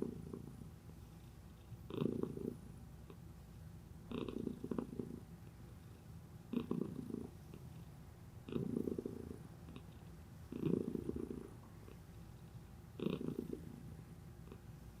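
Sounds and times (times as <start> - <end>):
cat purring: 0.0 - 3.2, 4.0 - 15.0.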